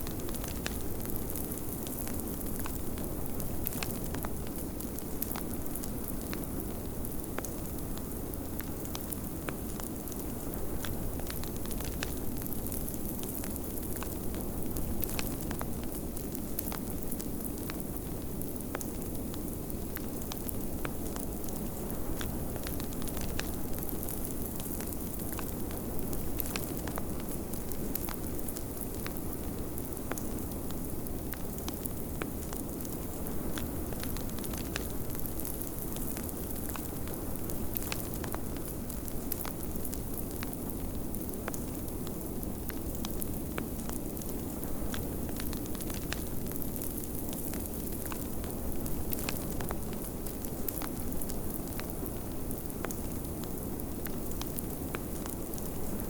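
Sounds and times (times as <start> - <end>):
fireplace crackling and popping: 0.0 - 56.0.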